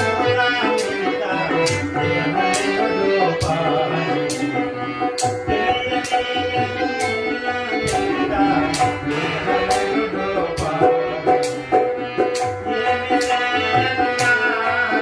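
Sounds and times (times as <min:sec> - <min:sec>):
bayan low note bending: 0:00.0 - 0:15.0
harmonium chords: 0:00.0 - 0:15.0.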